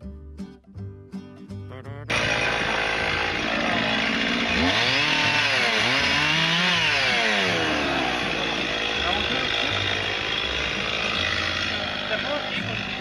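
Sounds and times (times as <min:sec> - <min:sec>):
guitar song: 0:00.0 - 0:13.0
chainsaw cutting into log: 0:02.1 - 0:13.0.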